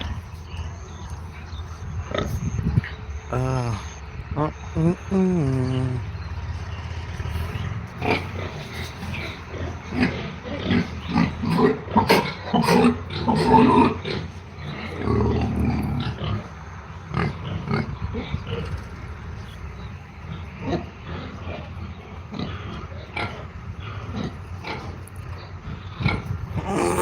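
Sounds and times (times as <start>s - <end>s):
pigs grunting: 0.0s - 27.0s.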